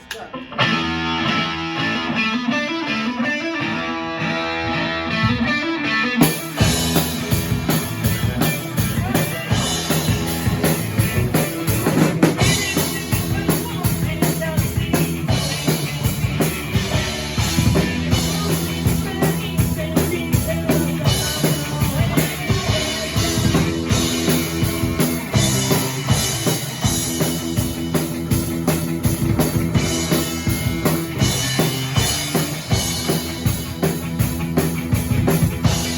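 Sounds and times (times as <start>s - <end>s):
guitar: 0.0s - 35.9s
rock band music: 0.0s - 35.9s.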